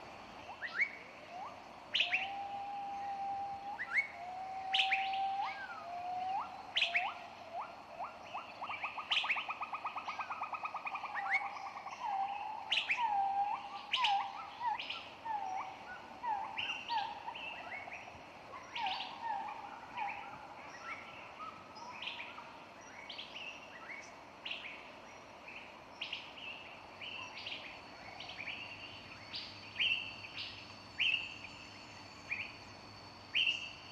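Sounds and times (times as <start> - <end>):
songbirds chirping and whistling: 0.0 - 33.9.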